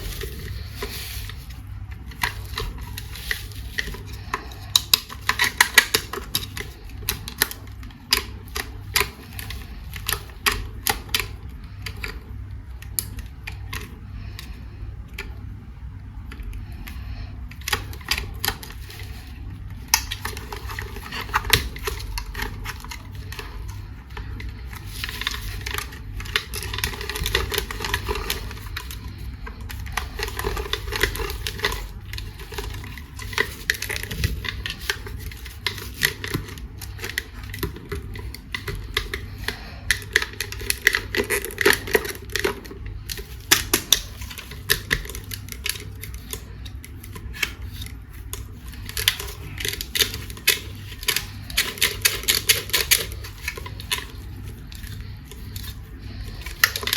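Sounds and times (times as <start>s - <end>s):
plastic toys clicking and tapping: 0.0s - 14.6s, 16.3s - 56.9s.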